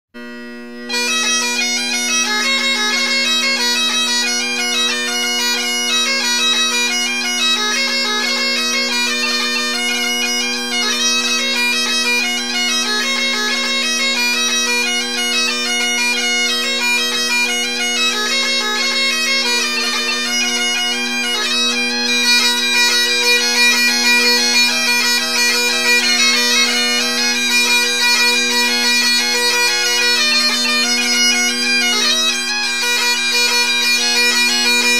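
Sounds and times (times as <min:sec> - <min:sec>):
bagpipes playing: 0:00.2 - 0:34.9.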